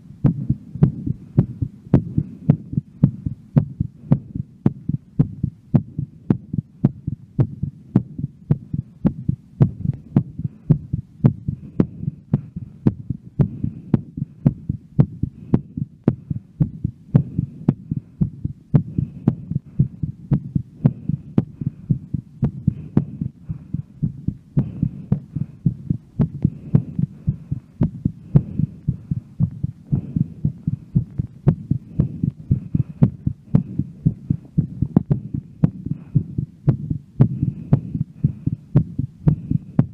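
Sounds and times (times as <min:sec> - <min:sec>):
heartbeat: 0:00.0 - 0:39.9
steady low hum: 0:00.0 - 0:39.9.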